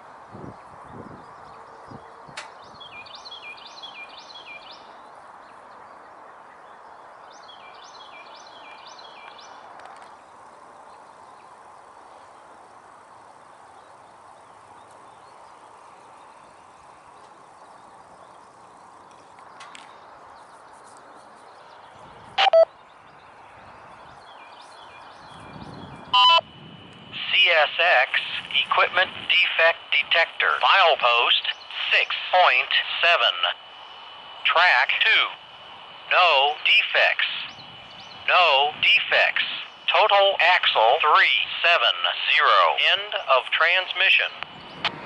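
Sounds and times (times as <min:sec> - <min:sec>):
outdoor background hiss: 0:00.0 - 0:45.0
songbird chirping: 0:00.3 - 0:26.5, 0:27.4 - 0:44.8.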